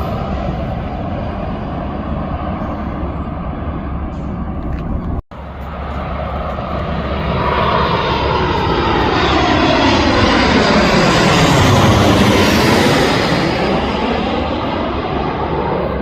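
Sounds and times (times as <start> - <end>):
airliner jet engines passing: 0.0 - 16.0.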